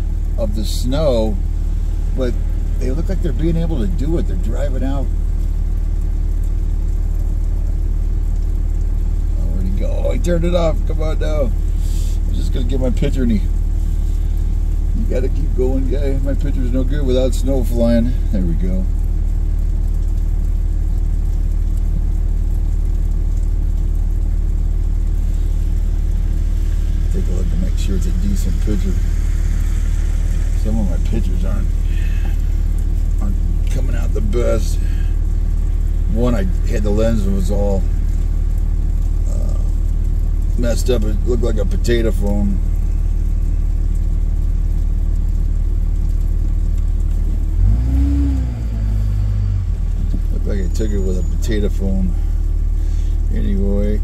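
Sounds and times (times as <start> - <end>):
car engine running: 0.0 - 54.0
road rumble: 0.0 - 54.0.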